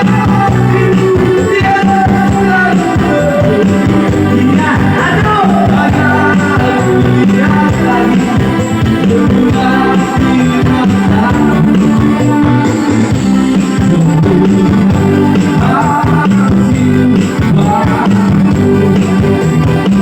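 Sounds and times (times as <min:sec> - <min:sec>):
loud music with singing: 0:00.0 - 0:20.0
steady bass beat: 0:00.0 - 0:20.0.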